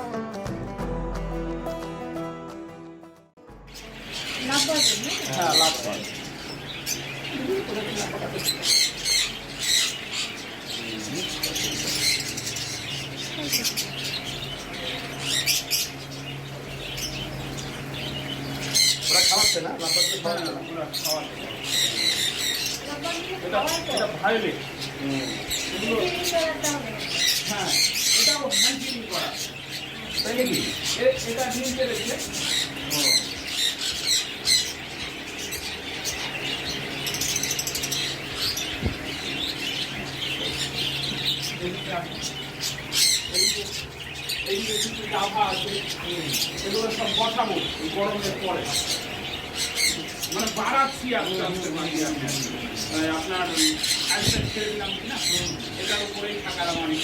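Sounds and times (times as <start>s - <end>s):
small birds chirping: 3.4s - 57.0s
steady low hum: 3.5s - 57.0s.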